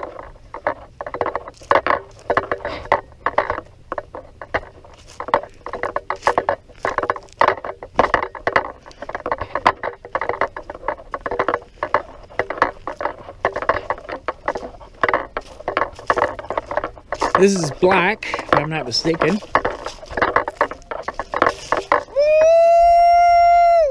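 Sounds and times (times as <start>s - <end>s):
footsteps on dry leaves and twigs: 0.0s - 23.9s.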